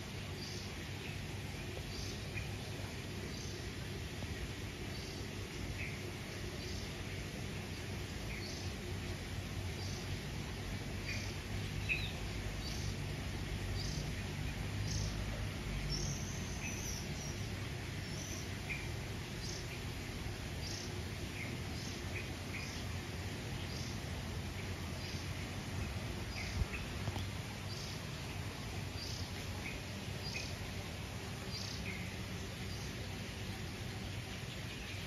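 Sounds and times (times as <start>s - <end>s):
birds chirping: 0.0s - 35.0s
low steady hum: 0.0s - 35.0s.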